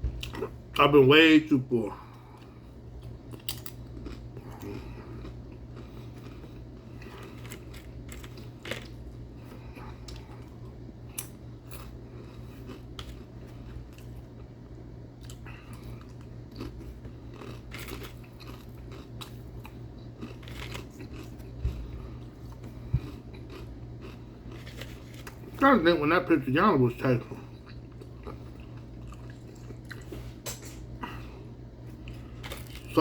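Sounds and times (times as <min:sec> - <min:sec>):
person chewing food: 0:00.1 - 0:00.6, 0:02.0 - 0:25.6, 0:27.3 - 0:32.9.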